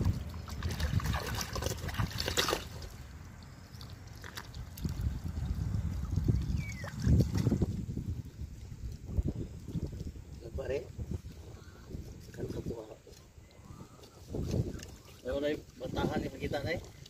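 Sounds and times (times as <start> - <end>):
wind buffeting microphone: 0.0 - 2.4, 4.5 - 17.0
seawater trickling and lapping: 0.0 - 17.0.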